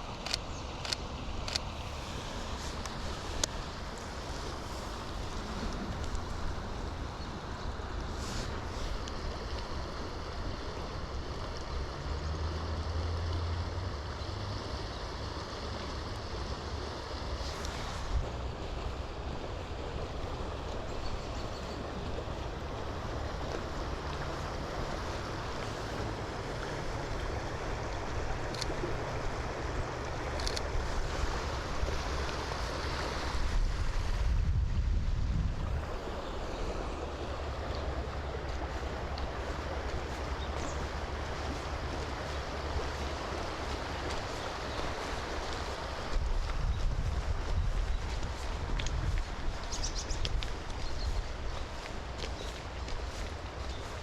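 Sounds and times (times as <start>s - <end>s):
wind rumbling on microphone: 0.0s - 15.0s, 15.8s - 54.0s
river water rushing: 0.0s - 54.0s.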